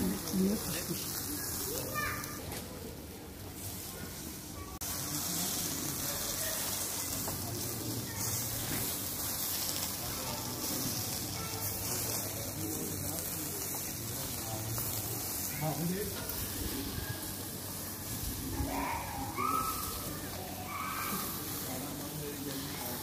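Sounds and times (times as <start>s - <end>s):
meat sizzling on a grill: 0.0s - 23.0s.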